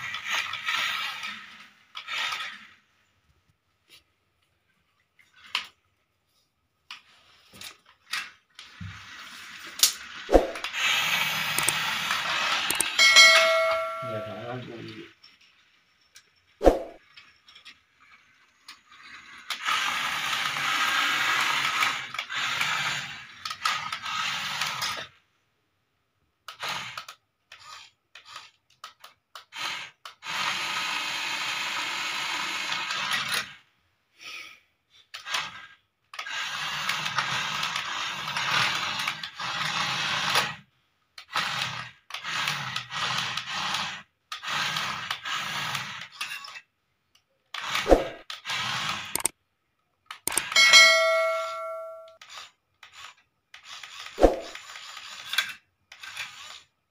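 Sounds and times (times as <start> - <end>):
toy electric motor whirring: 0.0 - 3.2, 6.9 - 25.4, 26.4 - 33.7, 34.9 - 49.4, 50.1 - 56.9.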